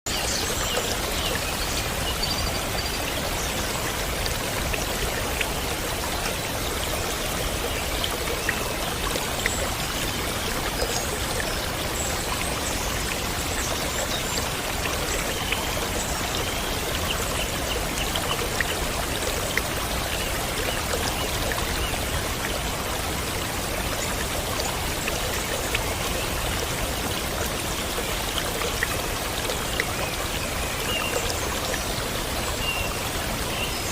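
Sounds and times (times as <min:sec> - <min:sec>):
water falling in small cascade: 0:00.1 - 0:33.9.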